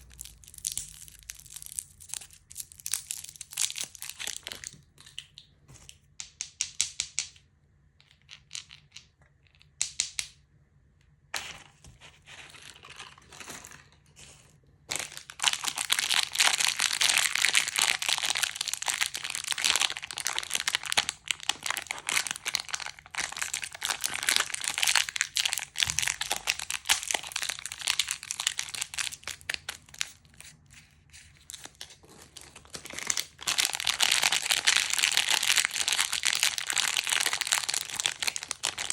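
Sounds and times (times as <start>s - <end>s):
candy wrappers crinkling: 0.0s - 5.3s, 12.0s - 38.9s.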